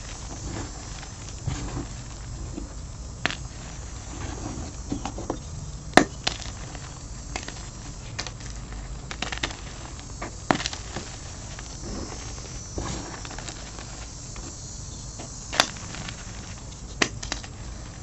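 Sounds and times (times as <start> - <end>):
chalk crushed by hand: 0.0 - 5.4, 6.0 - 18.0.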